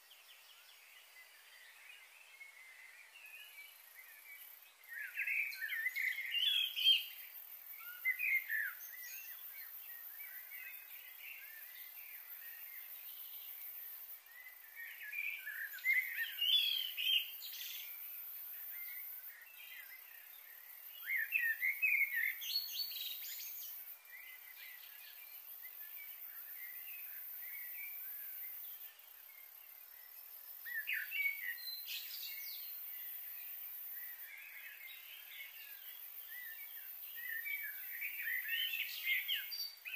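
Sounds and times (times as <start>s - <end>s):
bird chirping: 0.0s - 39.9s
steady background hiss: 0.0s - 39.9s.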